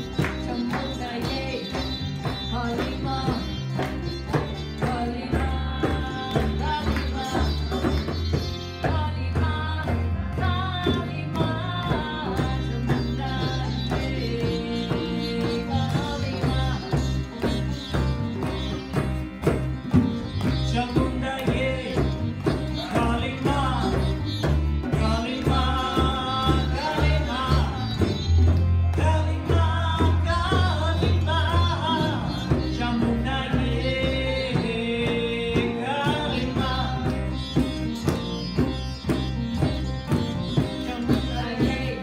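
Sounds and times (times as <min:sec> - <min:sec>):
women singing devotional chant: 0:00.0 - 0:18.2, 0:20.6 - 0:28.2, 0:29.2 - 0:37.8, 0:40.9 - 0:42.0
acoustic guitar: 0:00.0 - 0:42.0
harmonium: 0:00.0 - 0:42.0
tabla: 0:00.0 - 0:42.0
upright bass: 0:00.0 - 0:42.0.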